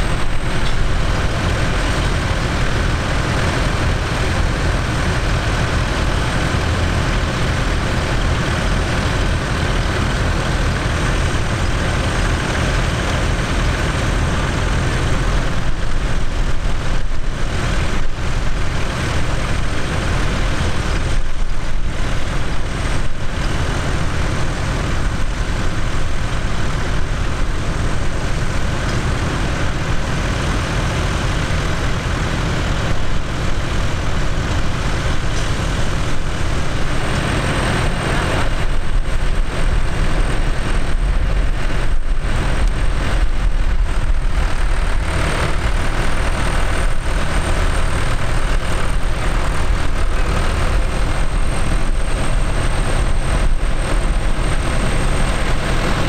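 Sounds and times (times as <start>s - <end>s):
tractor diesel engines running: 0.0s - 56.0s.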